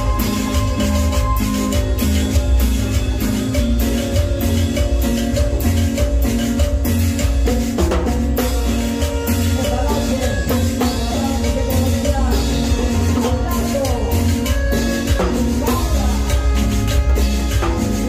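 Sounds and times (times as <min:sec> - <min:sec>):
drum kit and percussion beat: 0:00.0 - 0:18.0
latin dance band music: 0:00.0 - 0:18.0.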